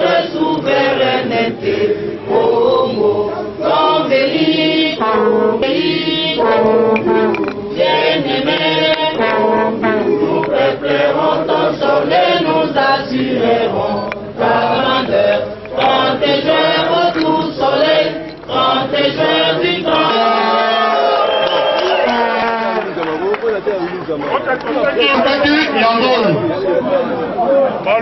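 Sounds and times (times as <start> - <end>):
group of people singing in chorus: 0.0 - 22.8.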